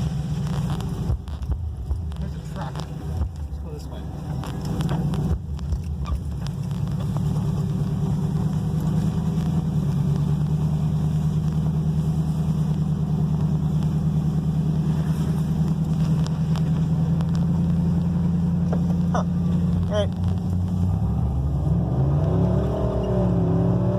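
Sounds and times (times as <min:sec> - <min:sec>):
truck engine humming: 0:00.0 - 0:23.9.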